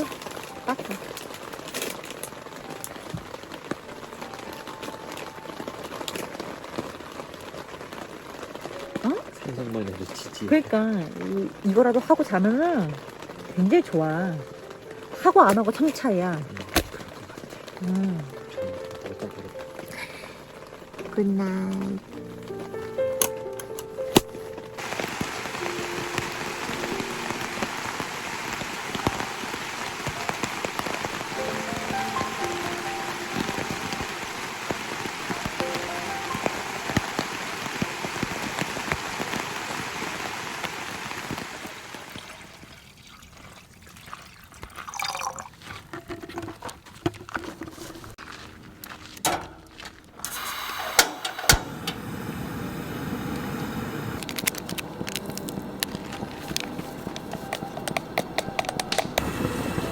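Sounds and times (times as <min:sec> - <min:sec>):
soft background music: 0:00.0 - 0:40.1, 0:47.8 - 0:50.5, 0:51.7 - 0:59.9
campfire crackling and hissing: 0:00.0 - 0:43.9, 0:44.6 - 0:59.9.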